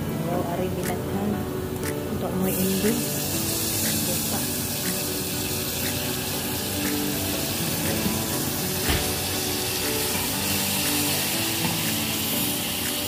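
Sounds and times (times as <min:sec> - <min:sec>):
onion sizzling in a pot: 0:02.2 - 0:13.0.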